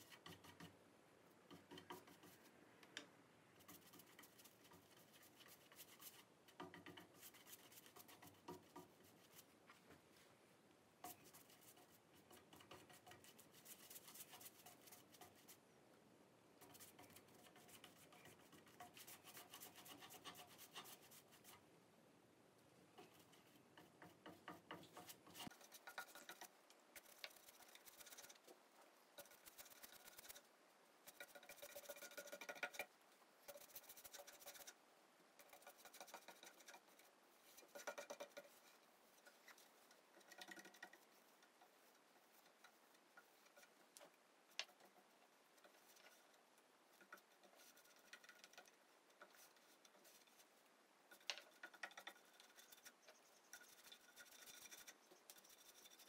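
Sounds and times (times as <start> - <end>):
paintbrush swishing on wood: 3.6 - 10.4, 11.0 - 15.6, 16.6 - 21.6, 23.0 - 34.8, 35.4 - 56.0.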